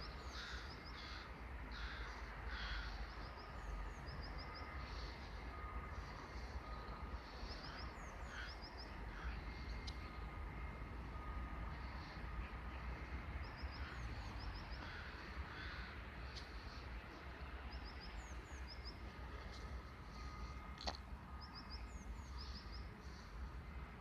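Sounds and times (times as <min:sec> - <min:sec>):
birds chirping: 0:00.0 - 0:23.8.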